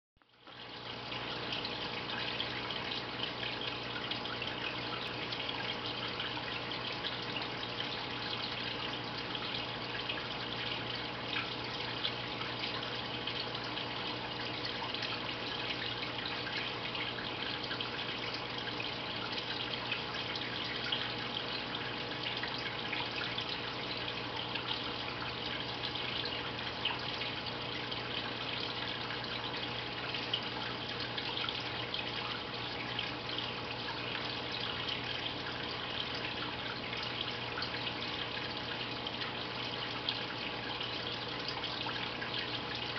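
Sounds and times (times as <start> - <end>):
aquarium filter hum: 0.2 - 42.9
water trickling and splashing: 0.2 - 42.9.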